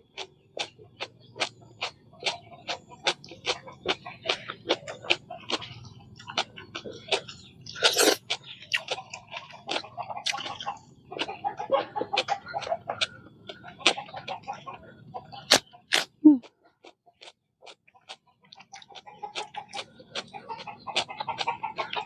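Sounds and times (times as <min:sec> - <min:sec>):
crunching raw vegetables: 0:00.0 - 0:14.6, 0:15.3 - 0:22.0.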